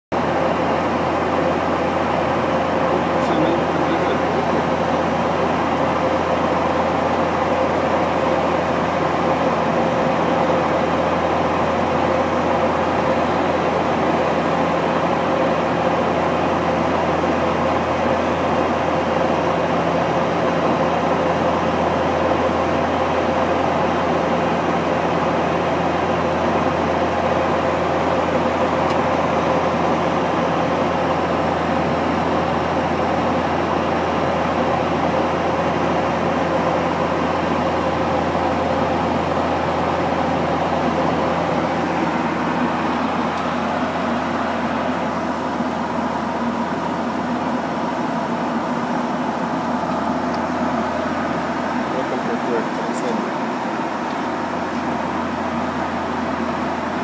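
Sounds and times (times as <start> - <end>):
turboprop engines droning: 0.1 - 57.0.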